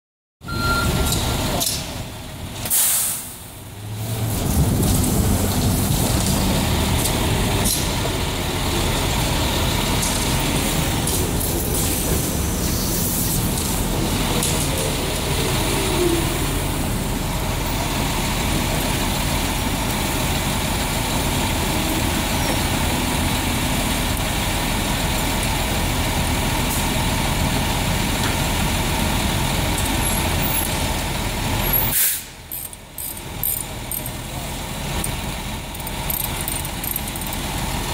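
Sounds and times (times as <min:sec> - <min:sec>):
street traffic rumble: 0:00.4 - 0:37.9
truck engine idling: 0:00.9 - 0:37.9.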